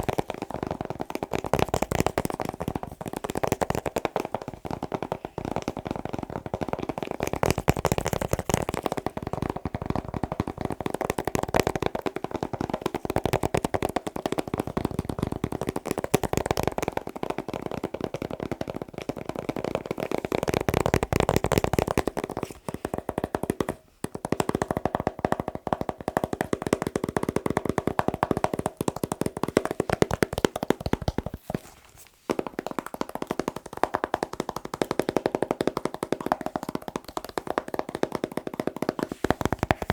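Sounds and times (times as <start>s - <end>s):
fingers tapping on objects: 0.0s - 39.9s.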